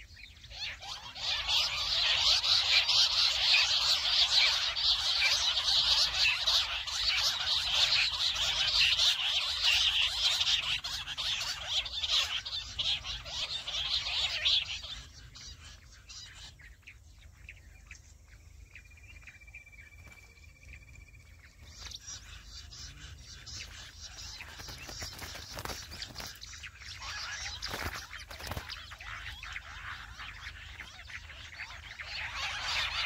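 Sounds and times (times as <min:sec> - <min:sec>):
faint bird calls: 0:00.0 - 0:33.0
quail chattering chorus: 0:00.0 - 0:33.0.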